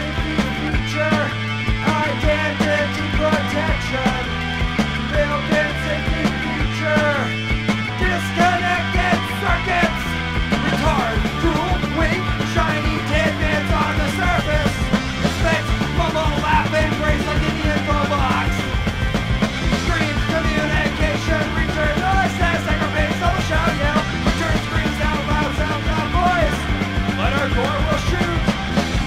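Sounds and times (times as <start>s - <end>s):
person singing: 0.0s - 4.3s, 5.0s - 7.4s, 8.0s - 18.7s, 19.8s - 28.6s
punk rock song: 0.0s - 29.0s.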